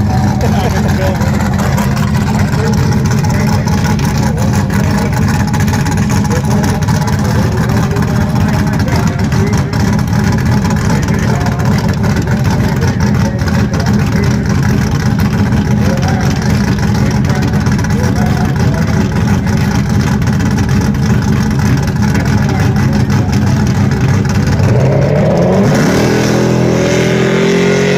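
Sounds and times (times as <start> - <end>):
car engine running: 0.0 - 27.9.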